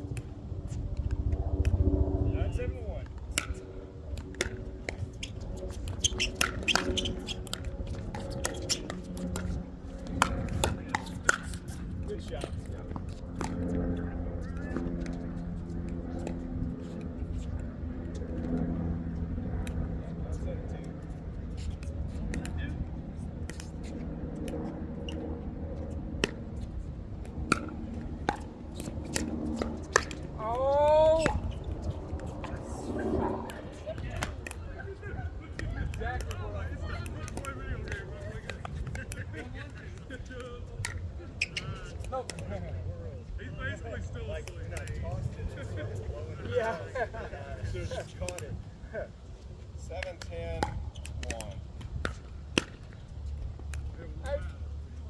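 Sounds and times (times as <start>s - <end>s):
wind on microphone: 0.0s - 49.8s.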